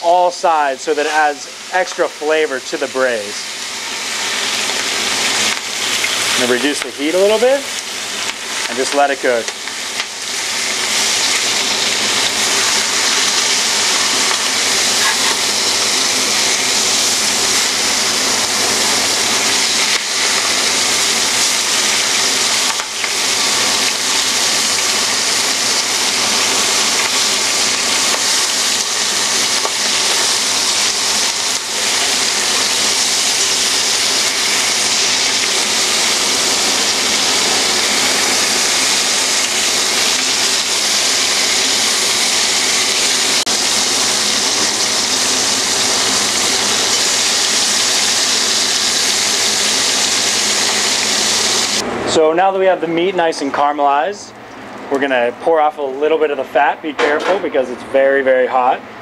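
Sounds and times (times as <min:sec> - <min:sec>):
meat sizzling in oil: 0:00.1 - 0:51.8.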